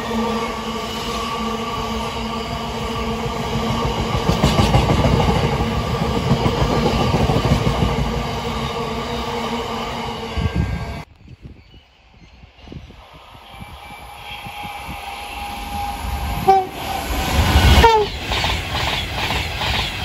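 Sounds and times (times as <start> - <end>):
freight train rumbling past: 0.0 - 11.1, 12.0 - 20.0.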